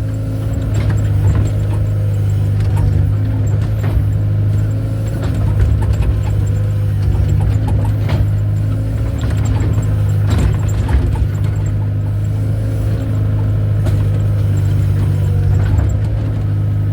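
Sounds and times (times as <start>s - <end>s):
excavator engine running: 0.0s - 16.9s.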